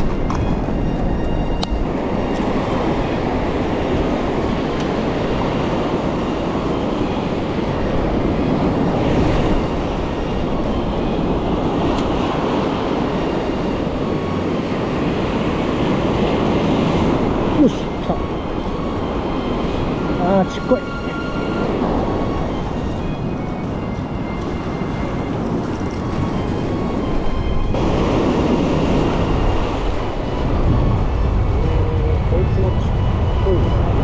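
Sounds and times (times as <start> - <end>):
surf roaring: 0.0 - 34.0
wind: 0.0 - 34.0.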